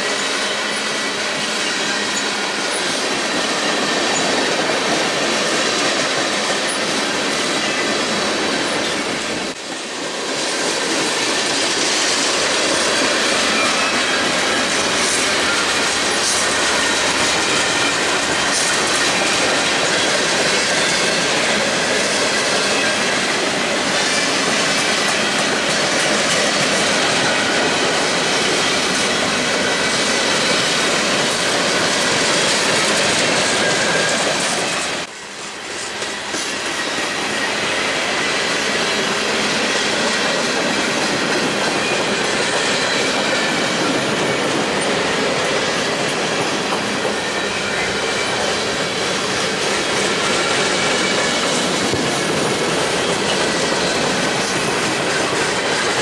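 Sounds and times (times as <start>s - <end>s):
clickety-clack over rail joints: 0.0s - 56.0s
freight train wheels rumbling: 0.0s - 56.0s.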